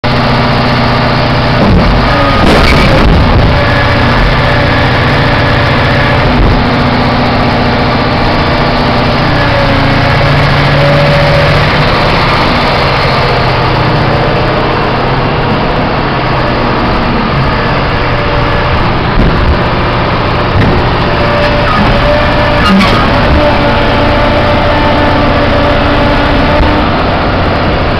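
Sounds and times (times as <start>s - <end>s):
diesel engine running under load: 0.0s - 27.9s
thin whine: 1.7s - 27.9s.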